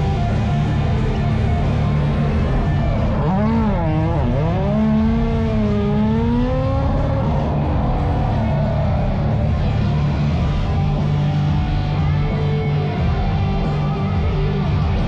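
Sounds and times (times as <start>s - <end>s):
car engine revving: 0.0s - 15.0s
low drone: 0.0s - 15.0s.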